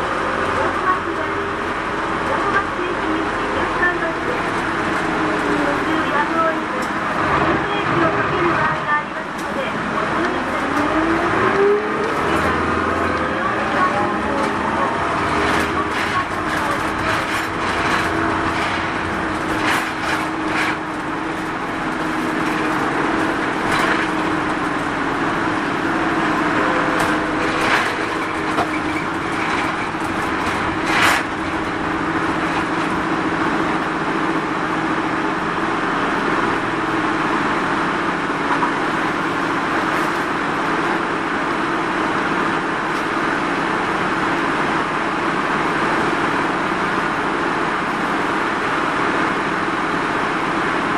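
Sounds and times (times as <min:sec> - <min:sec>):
diesel engine drone: 0:00.0 - 0:50.9
road and cabin noise: 0:00.0 - 0:50.9.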